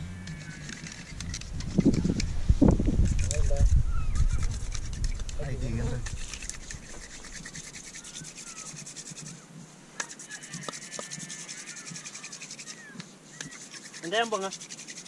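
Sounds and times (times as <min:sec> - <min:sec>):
dry scraping of wood on wood: 0:00.0 - 0:09.4, 0:10.0 - 0:15.0.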